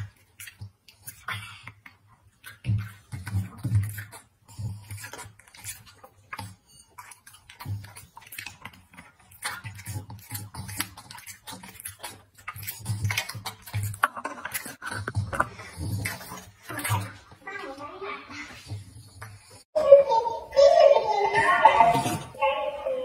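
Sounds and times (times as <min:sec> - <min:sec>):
dog chewing and lip smacking: 0:00.0 - 0:19.6.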